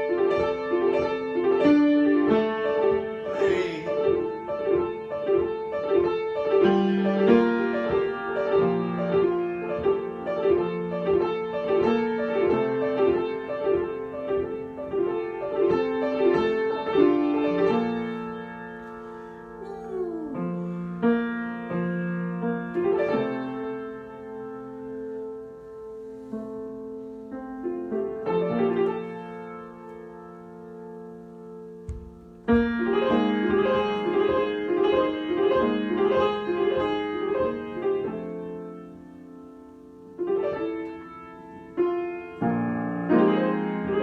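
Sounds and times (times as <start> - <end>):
solo piano improvisation: 0.0 - 44.0.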